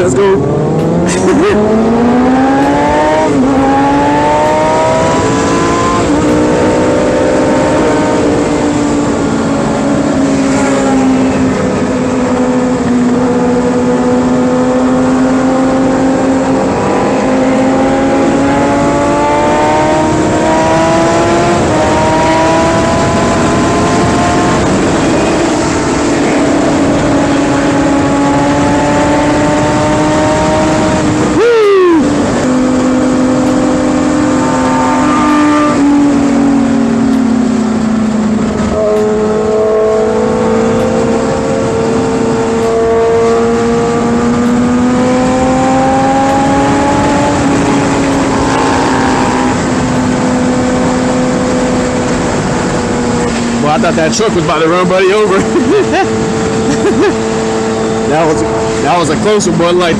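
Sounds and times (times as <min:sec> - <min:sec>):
motorcycle engine at speed: 0:00.0 - 0:59.9
wind rush on microphone: 0:00.0 - 0:59.9.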